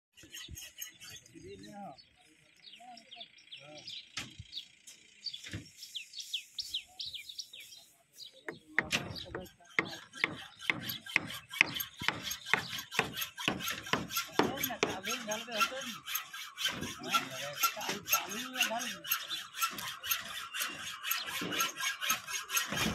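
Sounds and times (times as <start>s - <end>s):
rasping scraping strokes: 0.2s - 1.6s, 5.7s - 22.9s
birds chirping: 0.2s - 22.9s.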